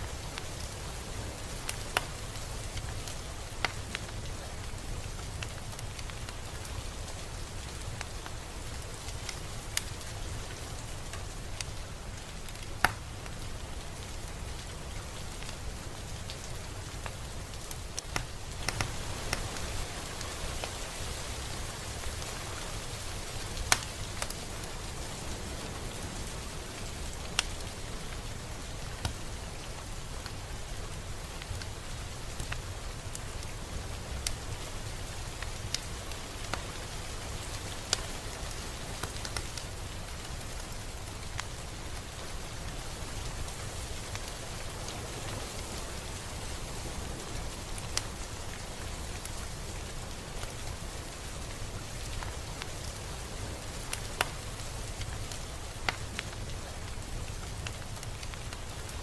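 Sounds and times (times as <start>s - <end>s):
raindrops ticking on a surface: 0.0s - 59.0s
steady rain hiss: 0.0s - 59.0s.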